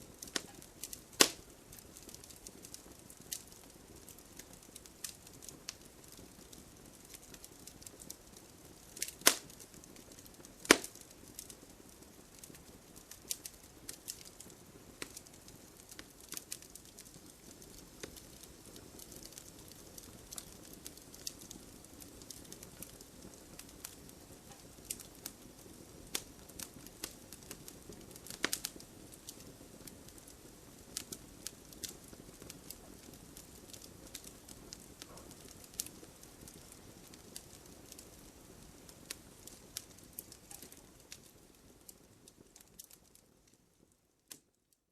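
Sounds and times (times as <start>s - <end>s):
fire hiss: 0.0s - 43.0s
campfire crackling and popping: 0.0s - 44.7s.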